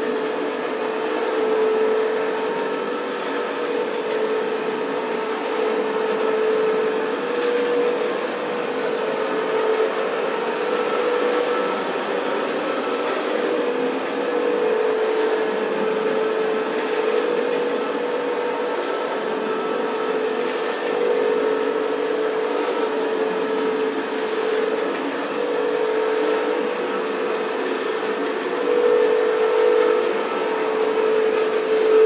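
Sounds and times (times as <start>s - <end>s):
carpet cleaner motor humming: 0.0s - 32.0s.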